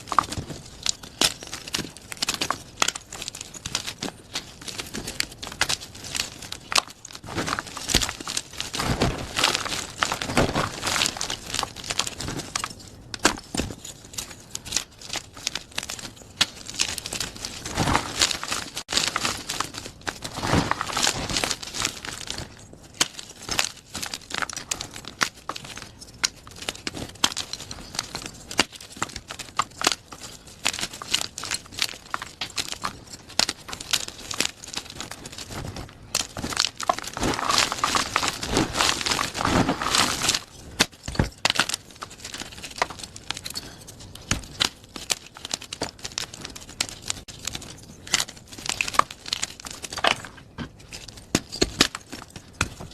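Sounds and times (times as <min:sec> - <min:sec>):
chalk being crushed: 0:00.0 - 0:52.9.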